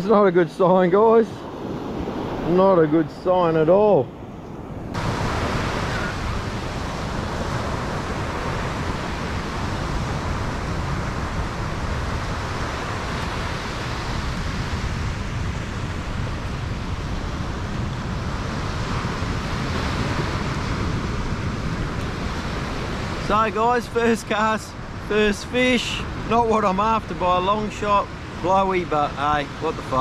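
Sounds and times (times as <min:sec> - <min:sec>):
ocean surf: 0:00.0 - 0:30.0
wind buffeting microphone: 0:00.0 - 0:30.0.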